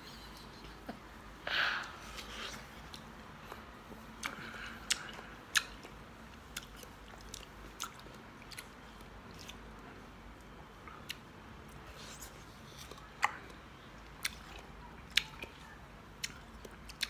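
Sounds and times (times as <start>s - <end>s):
child chewing: 0.1s - 17.0s.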